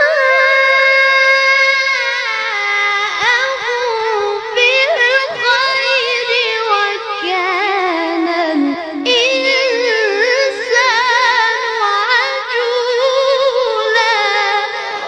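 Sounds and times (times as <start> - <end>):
boy reciting melodically: 0.0 - 15.0.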